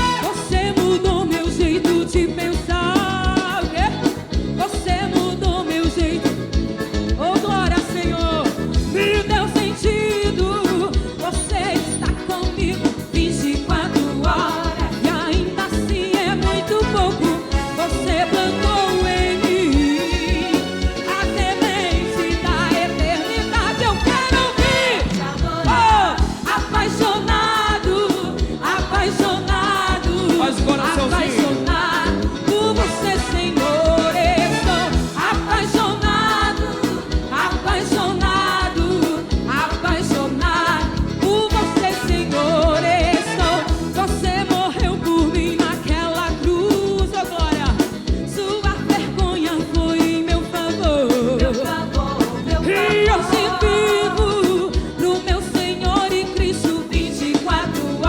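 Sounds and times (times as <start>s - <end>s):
live band music: 0.0s - 58.0s
steady drum beat: 0.0s - 58.0s.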